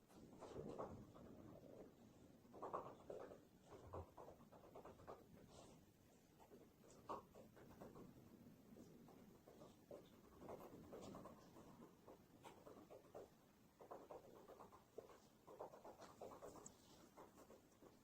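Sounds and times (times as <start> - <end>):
faint scratching and crackling: 0.0 - 18.0.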